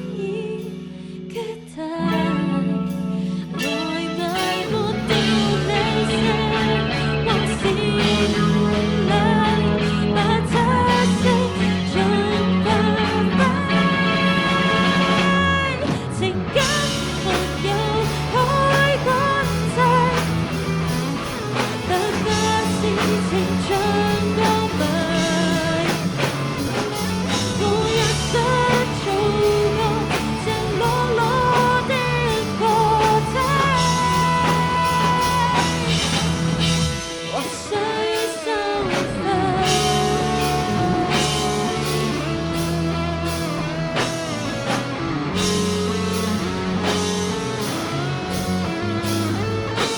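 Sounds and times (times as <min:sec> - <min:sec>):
rock song with sung vocal: 0:00.0 - 0:49.9.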